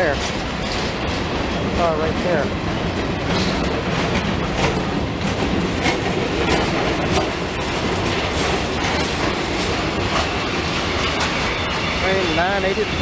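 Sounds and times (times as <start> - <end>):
rail cars rumbling past: 0.0 - 13.0
wheels clacking over rail joints: 0.0 - 13.0.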